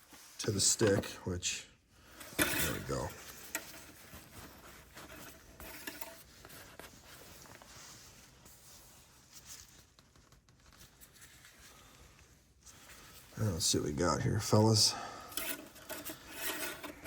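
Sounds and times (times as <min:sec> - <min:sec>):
faint rustling: 0:02.0 - 0:17.0.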